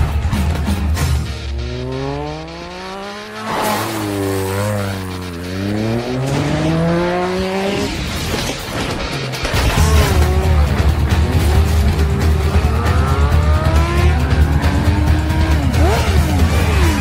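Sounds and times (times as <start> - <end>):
motorcycle engine revving hard: 1.3 - 8.2, 9.6 - 17.0.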